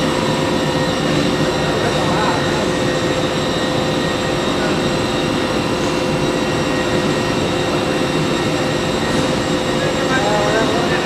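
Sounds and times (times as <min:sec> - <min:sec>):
factory machinery running: 0:00.0 - 0:11.0
steady whining tones: 0:00.0 - 0:11.0.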